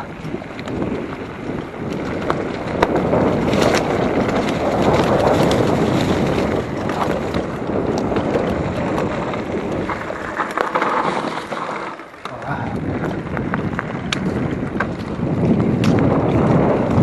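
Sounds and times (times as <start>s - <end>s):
wind on microphone: 0.0s - 11.4s, 12.3s - 17.0s
bike rattling over ground: 0.0s - 17.0s
bike tyre noise: 0.0s - 17.0s.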